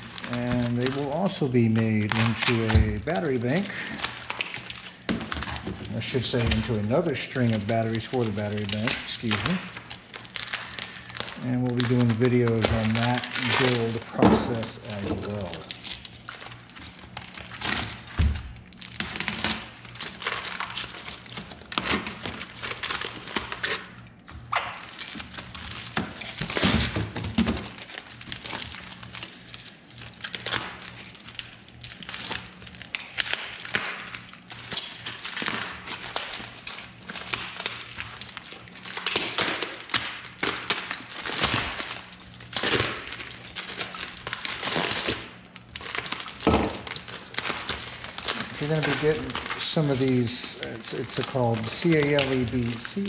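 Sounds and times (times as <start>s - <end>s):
plastic wrapping crinkling: 0.0s - 53.0s.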